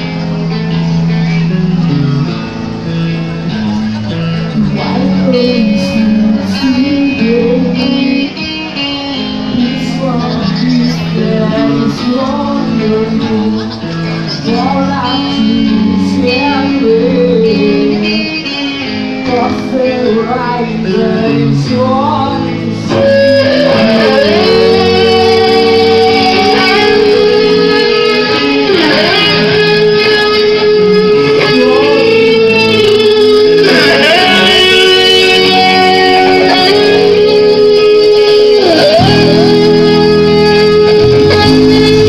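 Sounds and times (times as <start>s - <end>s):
plucked guitar: 0.0s - 42.0s.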